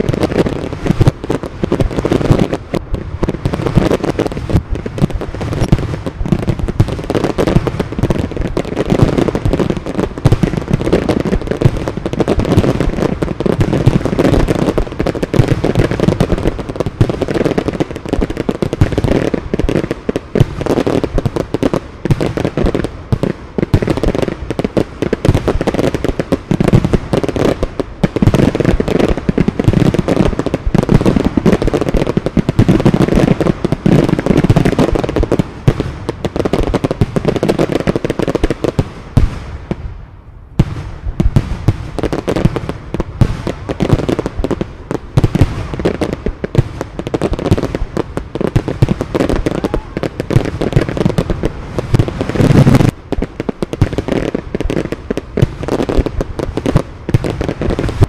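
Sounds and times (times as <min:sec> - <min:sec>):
fireworks exploding: 0:00.0 - 0:58.0.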